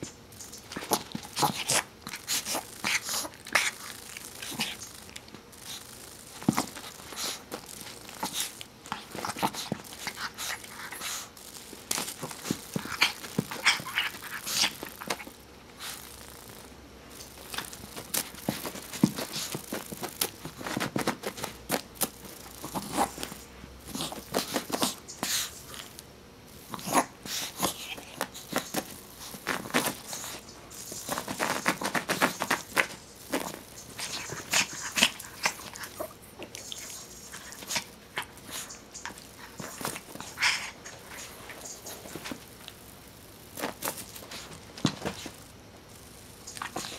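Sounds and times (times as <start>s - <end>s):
dog pawing and scratching carpet: 0.5s - 16.0s, 17.3s - 25.8s, 26.7s - 42.8s, 43.6s - 45.4s.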